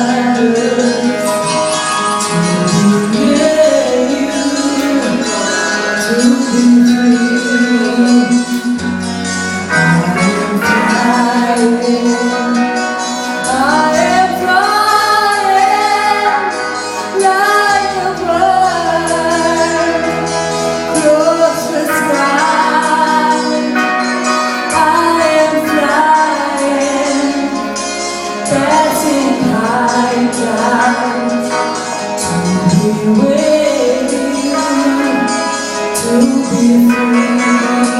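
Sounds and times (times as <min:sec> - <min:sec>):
song with singing over a beat: 0:00.0 - 0:37.9.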